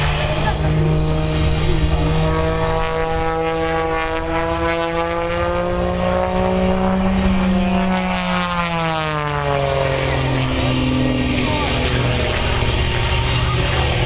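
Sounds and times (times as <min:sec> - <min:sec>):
propeller plane engine passing: 0:00.0 - 0:14.0.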